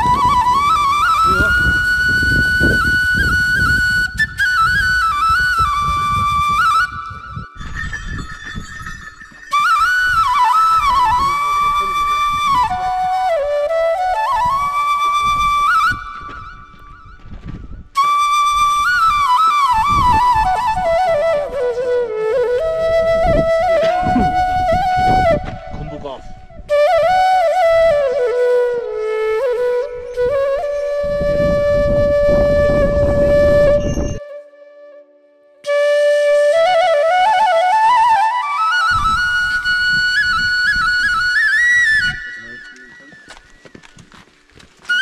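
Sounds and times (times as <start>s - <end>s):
ornamented melody line: 0.0s - 45.0s.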